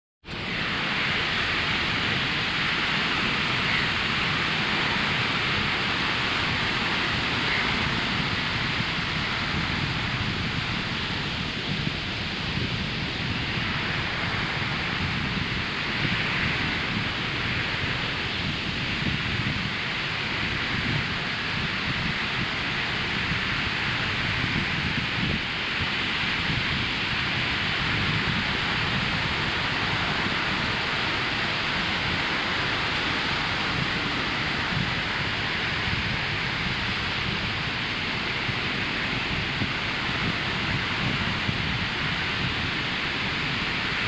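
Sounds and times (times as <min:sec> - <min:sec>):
surf breaking on beach: 0:00.3 - 0:44.0.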